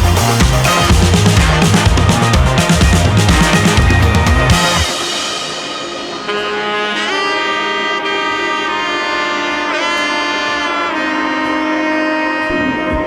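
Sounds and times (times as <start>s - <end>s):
instrument playing long held notes: 0.0s - 13.0s.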